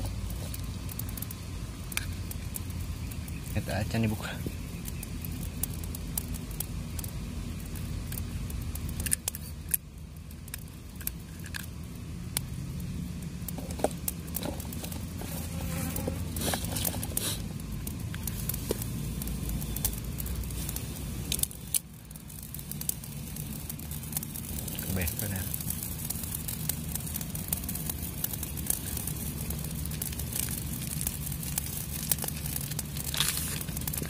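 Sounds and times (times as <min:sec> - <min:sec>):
fire crackling: 0:00.0 - 0:34.0
steady low rumble: 0:00.0 - 0:34.0.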